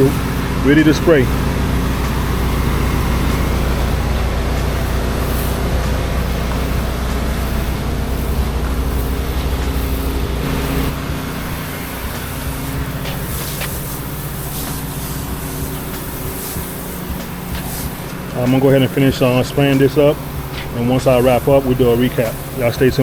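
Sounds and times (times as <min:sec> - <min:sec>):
engine running steadily: 0:00.0 - 0:23.0
sprayer hissing: 0:00.0 - 0:23.0.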